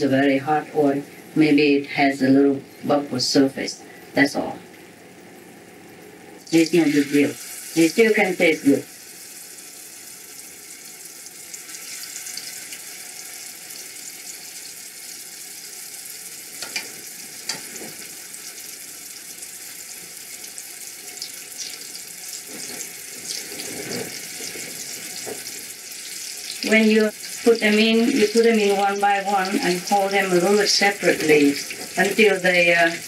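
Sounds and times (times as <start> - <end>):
food deep-frying in oil: 6.4 - 33.0.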